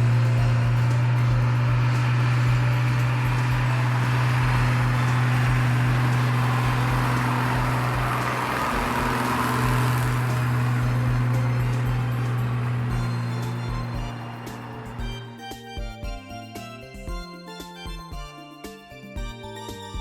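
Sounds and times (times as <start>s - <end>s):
heavy truck engine running: 0.0s - 17.2s.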